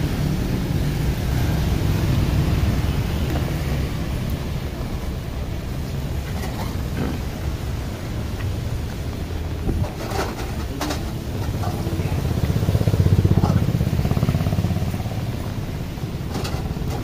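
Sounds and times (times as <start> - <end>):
motorbike passing on wet street: 0.0 - 17.0.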